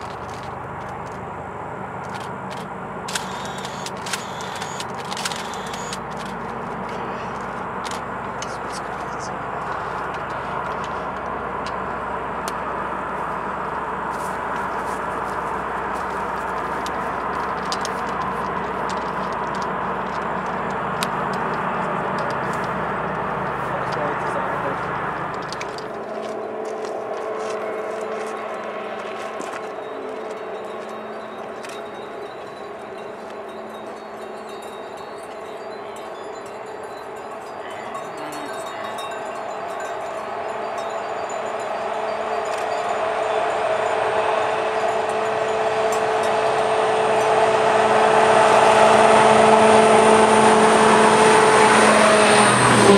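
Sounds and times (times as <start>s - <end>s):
distant freight train rumbling: 0.0s - 52.9s.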